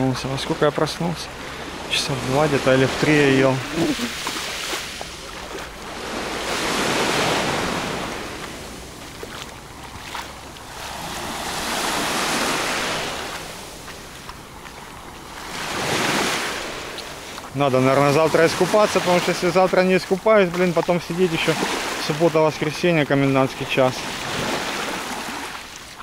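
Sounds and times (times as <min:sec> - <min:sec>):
waves washing on pebble beach: 0:00.0 - 0:26.0.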